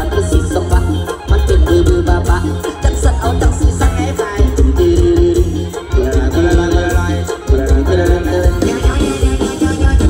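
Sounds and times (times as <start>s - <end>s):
heavy bass beat: 0.0s - 10.0s
live band music over loudspeakers: 0.0s - 10.0s.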